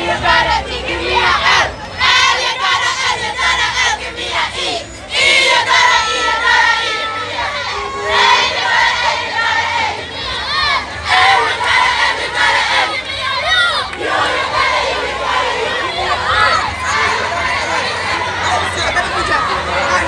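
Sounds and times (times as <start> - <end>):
crowd of students shouting and cheering: 0.0 - 20.0.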